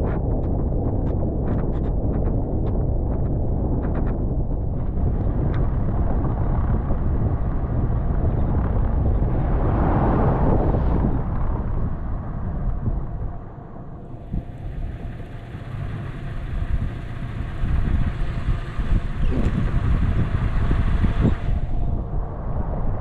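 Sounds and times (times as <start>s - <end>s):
truck engine rumble: 0.0s - 23.0s
wind on microphone: 0.0s - 23.0s.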